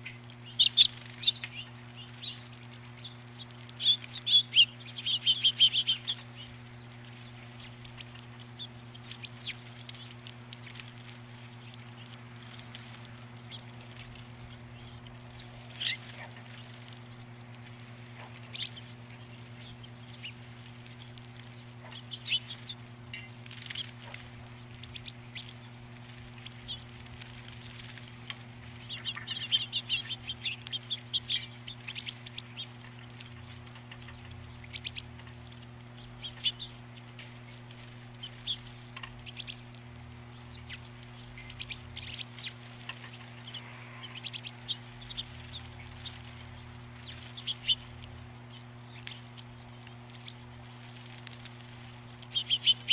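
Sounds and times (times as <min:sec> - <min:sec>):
small birds chirping: 0:00.0 - 0:52.9
steady electrical hum: 0:00.0 - 0:52.9.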